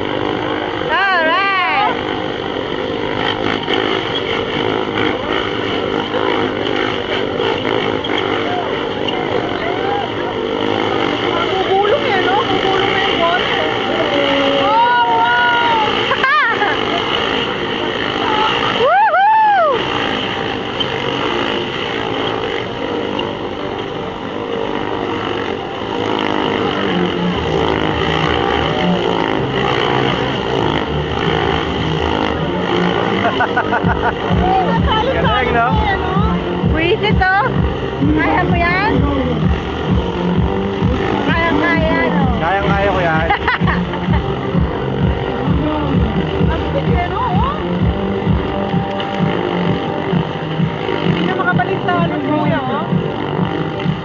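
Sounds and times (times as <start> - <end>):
motorcycle engines droning: 0.0 - 54.0.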